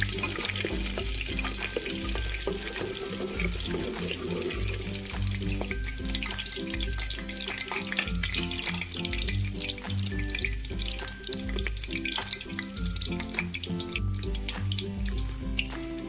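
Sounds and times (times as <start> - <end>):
background music with bass: 0.0 - 16.0
food sizzling in hot oil: 0.0 - 16.0.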